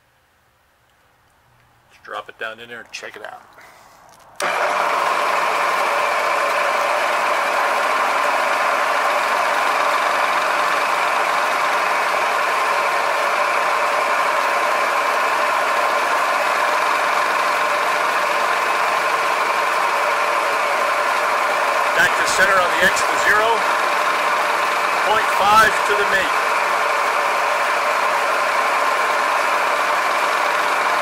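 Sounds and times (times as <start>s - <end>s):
milling machine cutting metal: 4.4s - 31.0s.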